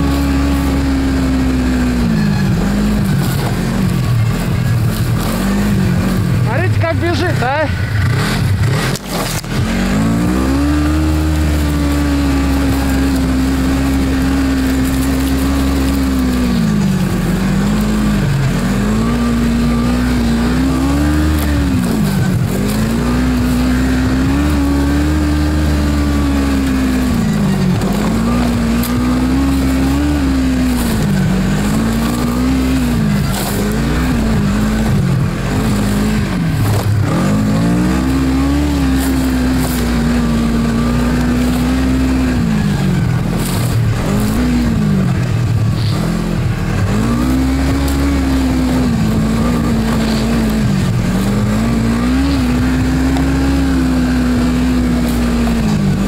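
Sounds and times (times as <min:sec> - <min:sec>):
snowmobile engine running hard: 0:00.0 - 0:56.0.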